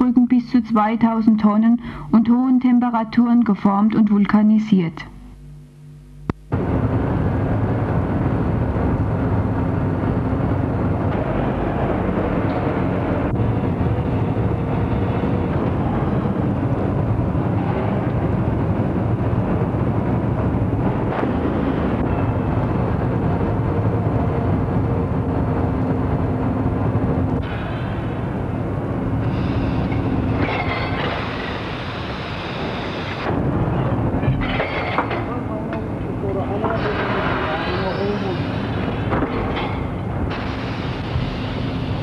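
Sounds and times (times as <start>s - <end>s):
factory machinery humming: 0.0s - 42.0s.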